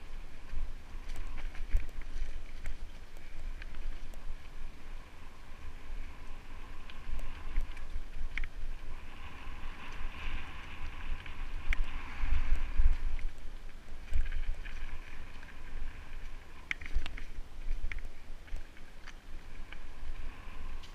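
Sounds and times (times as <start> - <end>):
bike tyres on dirt trail: 0.0 - 20.9.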